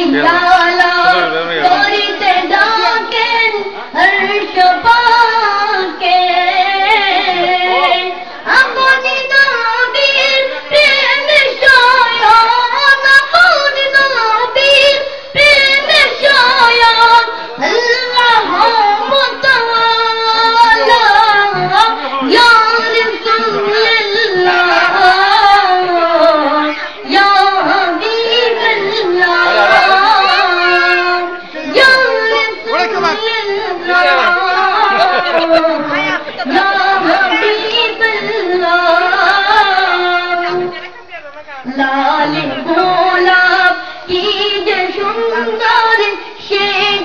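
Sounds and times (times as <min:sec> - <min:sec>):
high voice singing devotional song: 0:00.0 - 0:47.0.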